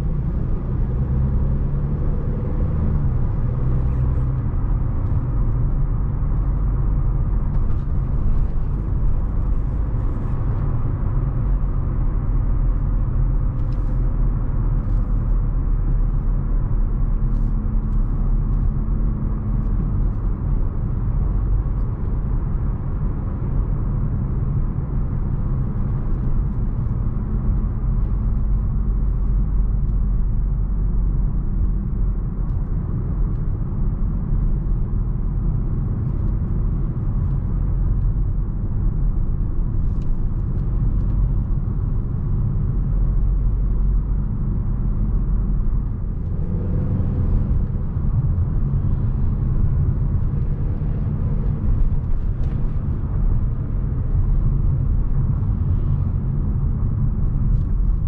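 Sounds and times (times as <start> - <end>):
car engine running: 0.0 - 58.0
tyre and road noise: 0.0 - 58.0.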